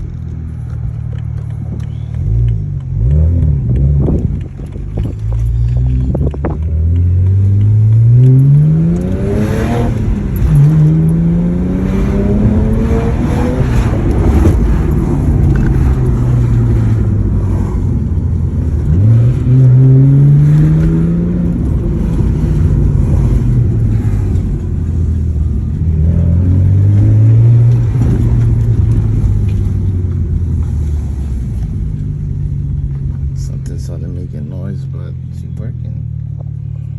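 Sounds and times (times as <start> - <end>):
car engine accelerating hard: 0.0 - 36.9.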